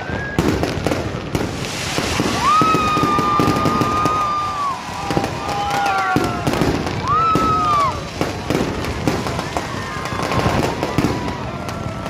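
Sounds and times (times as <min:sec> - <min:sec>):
firecracker pops and bangs: 0:00.0 - 0:12.0
firework whistle: 0:00.0 - 0:12.0.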